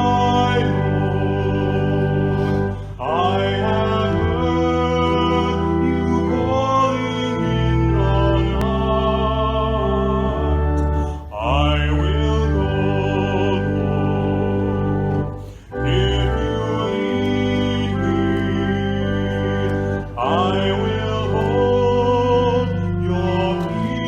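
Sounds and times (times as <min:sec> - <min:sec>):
organ chords: 0:00.0 - 0:24.0.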